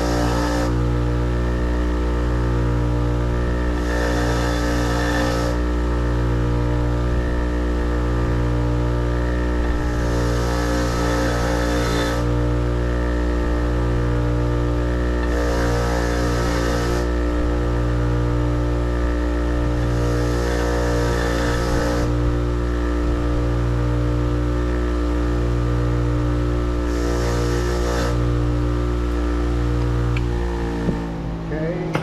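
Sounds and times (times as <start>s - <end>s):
grinder humming: 0.0s - 32.0s.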